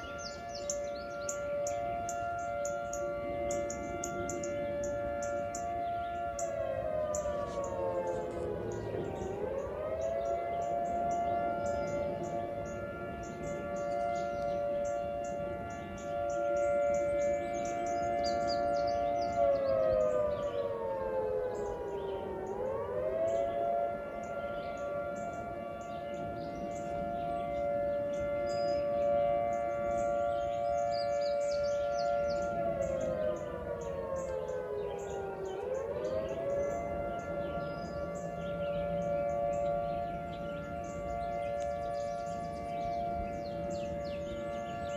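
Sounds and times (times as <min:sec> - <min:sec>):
two-tone siren: 0:00.0 - 0:44.9.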